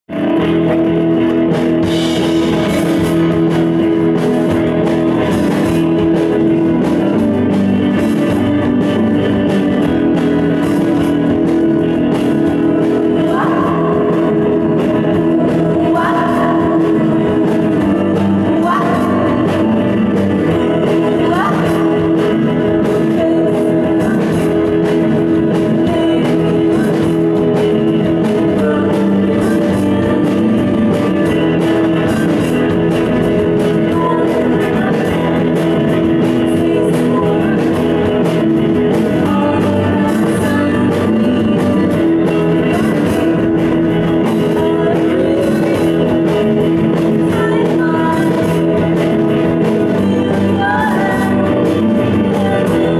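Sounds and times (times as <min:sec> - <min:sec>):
surf rock band playing: 0:00.0 - 0:52.9
woman singing: 0:01.9 - 0:52.9.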